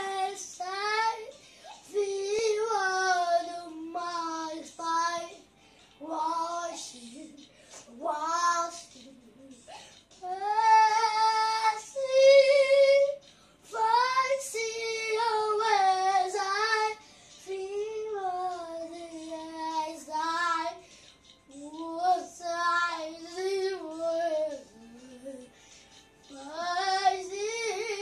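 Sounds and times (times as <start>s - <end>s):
boy singing unaccompanied: 0.0s - 5.4s, 6.0s - 20.8s, 21.5s - 25.5s, 26.3s - 28.0s.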